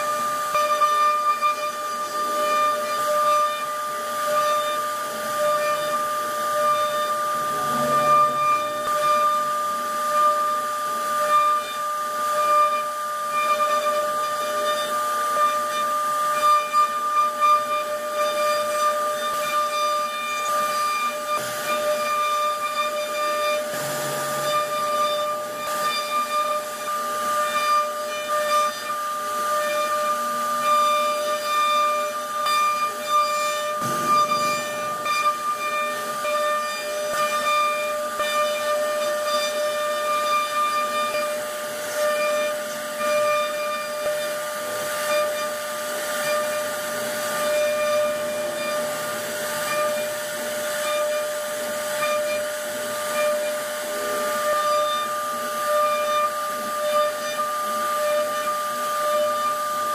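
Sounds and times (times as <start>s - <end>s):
hiss of wood cutting: 0.0s - 59.9s
router spindle whining: 0.0s - 59.9s.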